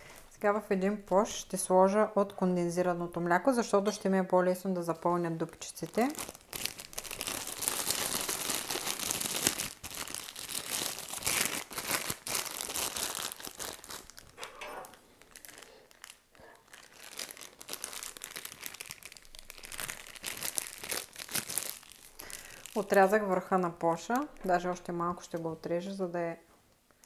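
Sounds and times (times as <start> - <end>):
plastic piping bag crinkling: 3.4 - 25.6.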